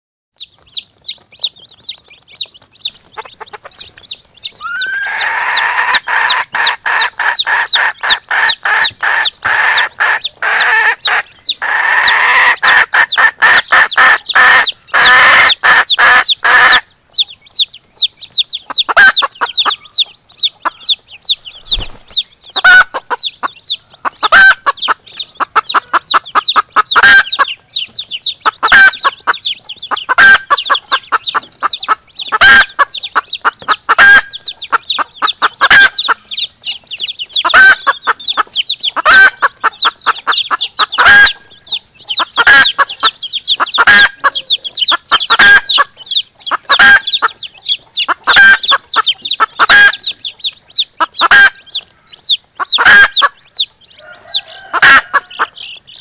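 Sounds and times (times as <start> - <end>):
chicks peeping: 0.3 - 56.0
hen clucking: 0.4 - 56.0.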